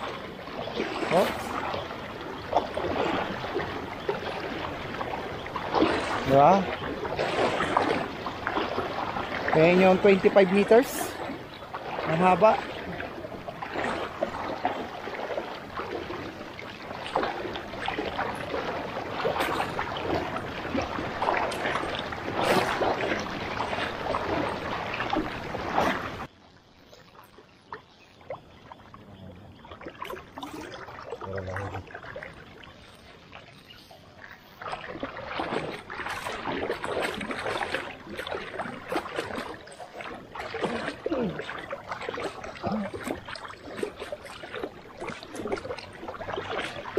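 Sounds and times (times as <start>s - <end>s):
water sloshing around legs: 0.0s - 46.9s.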